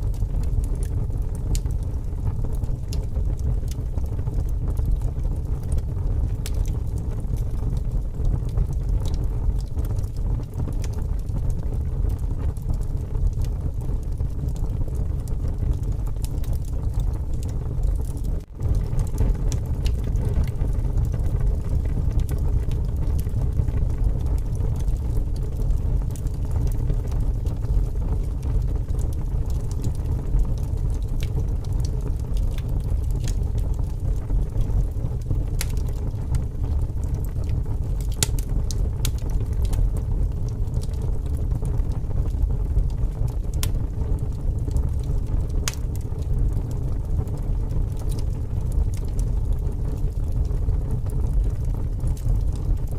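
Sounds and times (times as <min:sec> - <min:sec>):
strong wind rumble: 0:00.0 - 0:52.9
wood fire crackling: 0:00.0 - 0:52.9.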